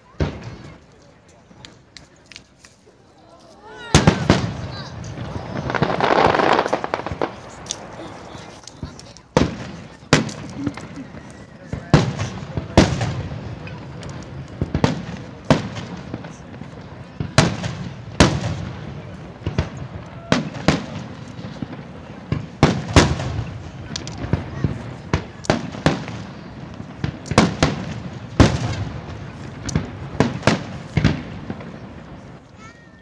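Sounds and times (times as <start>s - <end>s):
fireworks bursting with echo: 0.0s - 33.0s.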